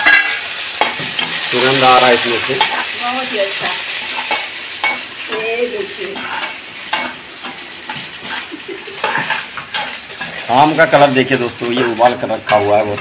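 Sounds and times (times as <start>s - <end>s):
garlic sizzling in hot oil: 0.0s - 13.0s
metal turner scraping pan: 0.0s - 13.0s.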